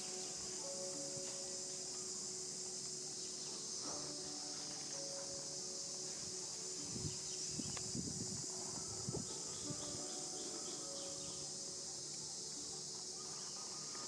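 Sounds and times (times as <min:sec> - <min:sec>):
insects buzzing: 0:00.0 - 0:14.0
rustles on dry leaves: 0:00.0 - 0:14.0.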